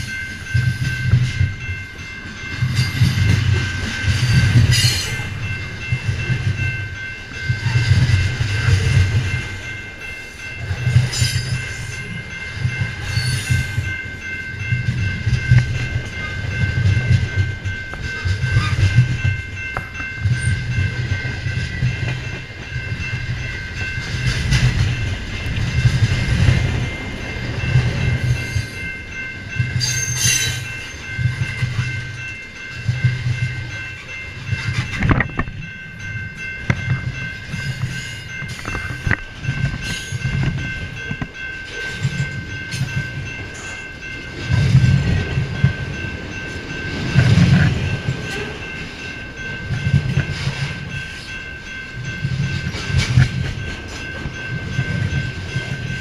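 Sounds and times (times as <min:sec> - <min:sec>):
freight train rolling past: 0:00.0 - 0:56.0
train cars clacking over rail joints: 0:00.0 - 0:56.0.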